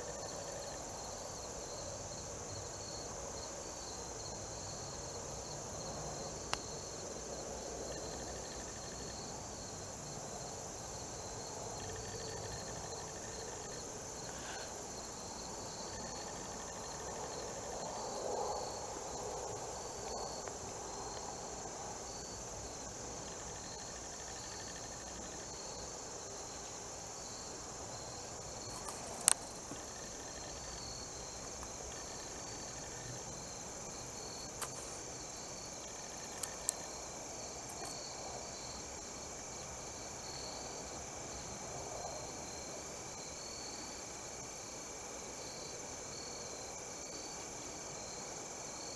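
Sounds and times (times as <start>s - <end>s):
cricket trilling: 0.1s - 43.8s
insects buzzing: 0.1s - 48.9s.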